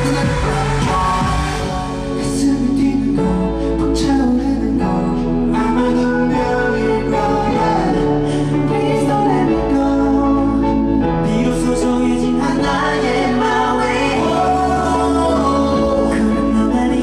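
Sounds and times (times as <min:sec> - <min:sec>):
pop song with male group vocals: 0:00.0 - 0:17.0.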